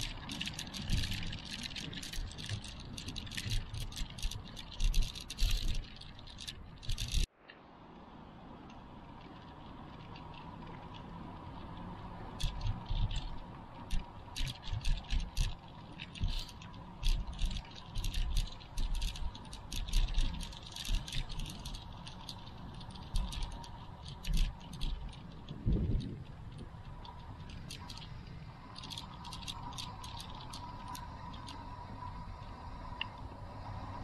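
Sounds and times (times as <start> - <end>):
clicking and rattling: 0.0 - 7.3, 9.2 - 31.7.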